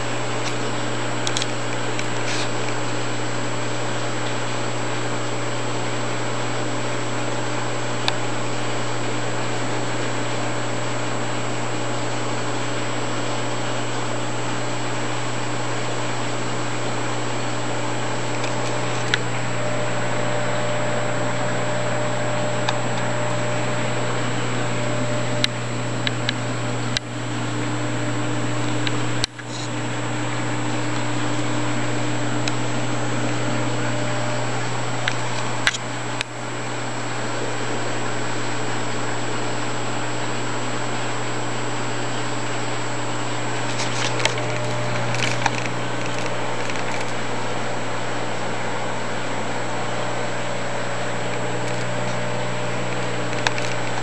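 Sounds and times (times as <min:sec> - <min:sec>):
aquarium pumps hissing: 0:00.0 - 0:54.0
low electrical hum: 0:00.0 - 0:54.0.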